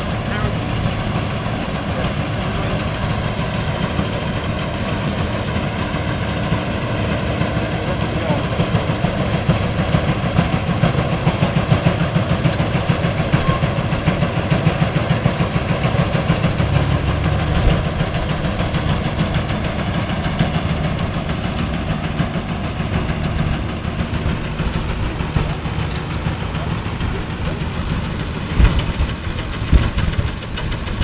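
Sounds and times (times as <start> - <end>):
combine harvester engine running: 0.0 - 31.0.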